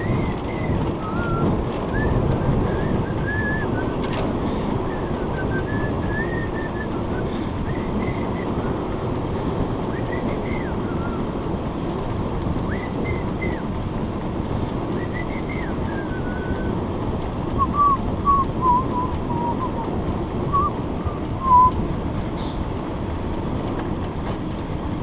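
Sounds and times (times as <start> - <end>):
wind on microphone: 0.0 - 23.7.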